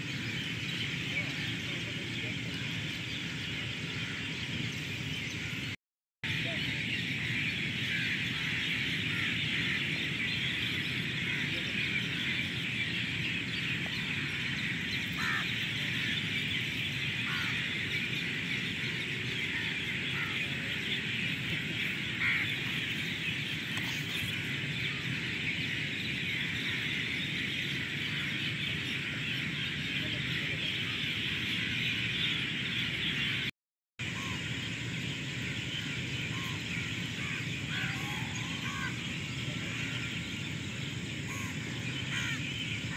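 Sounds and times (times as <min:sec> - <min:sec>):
birds chattering: 0:00.0 - 0:42.9.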